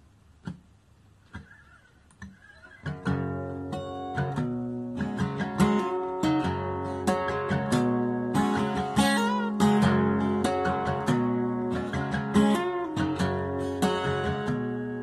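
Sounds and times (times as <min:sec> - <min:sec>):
acoustic guitar: 0:00.4 - 0:15.0.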